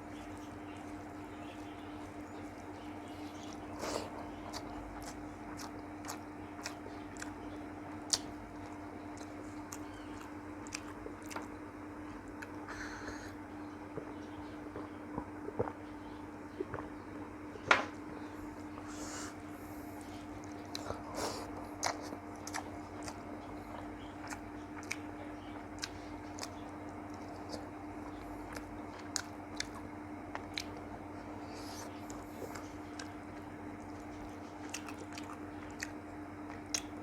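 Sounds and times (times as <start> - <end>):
faint steady hum: 0.0 - 37.0
person chewing: 2.0 - 15.9, 16.6 - 17.2, 18.0 - 37.0.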